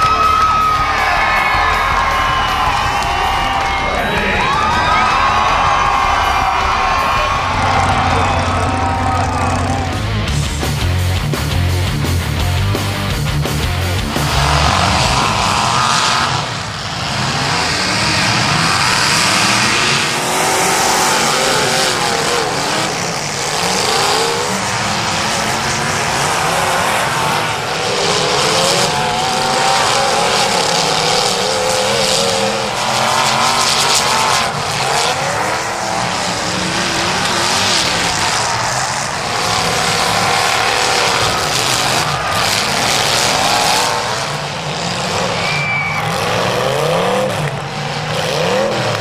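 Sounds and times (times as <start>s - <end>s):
car engines revving hard: 0.0s - 49.0s.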